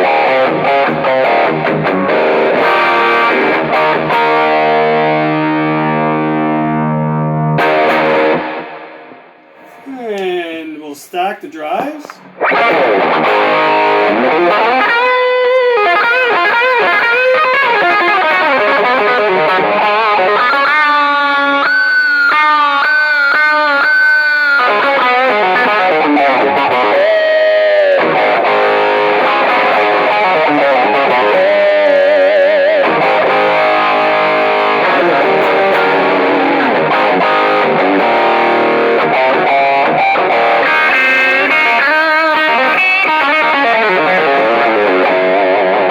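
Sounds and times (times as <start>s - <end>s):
distorted electric guitar: 0.0s - 10.3s, 12.0s - 45.9s.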